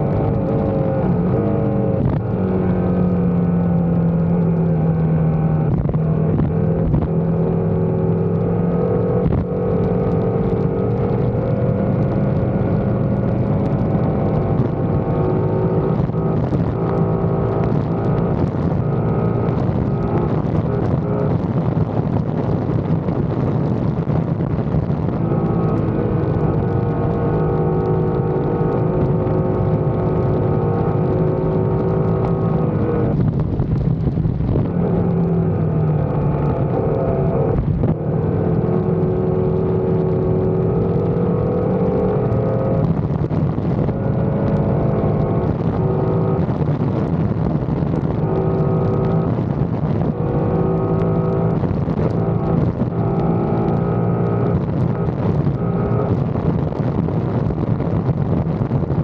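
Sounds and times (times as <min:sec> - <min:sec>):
motorcycle engine: 0:00.0 - 0:59.0
wind rush: 0:00.0 - 0:59.0.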